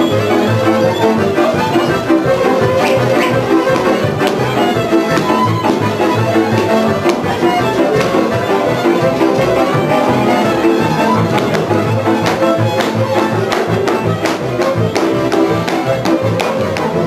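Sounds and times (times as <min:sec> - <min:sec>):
folk string-band music with fiddle: 0:00.0 - 0:17.0
pulsing bass beat: 0:00.4 - 0:17.0.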